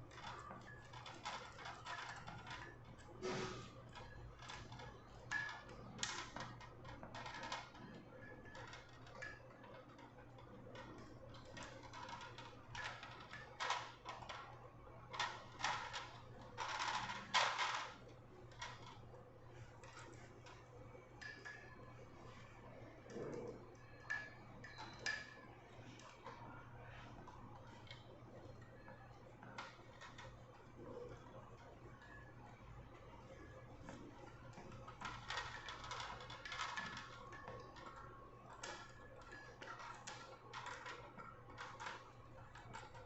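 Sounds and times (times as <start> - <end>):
faint low hum: 0.0 - 43.0
plastic clicks and rattles: 0.1 - 43.0.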